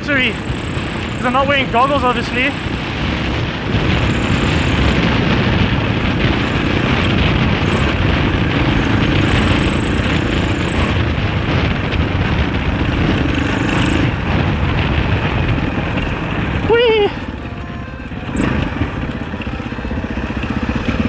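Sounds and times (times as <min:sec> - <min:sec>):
dirt bike engine running: 0:00.0 - 0:21.0
wind rush on microphone: 0:00.0 - 0:21.0.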